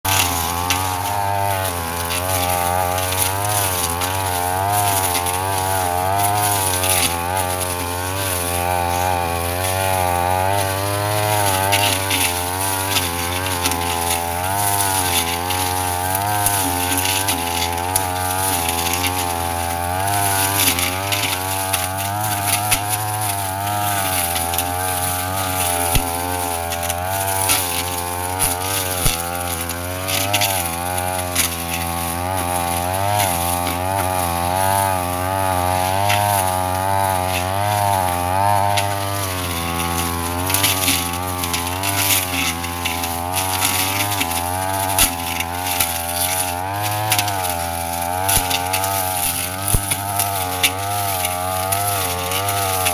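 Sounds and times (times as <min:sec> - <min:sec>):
brush cutter engine cutting grass: 0:00.0 - 0:52.9
cut stems crackling: 0:00.0 - 0:52.9.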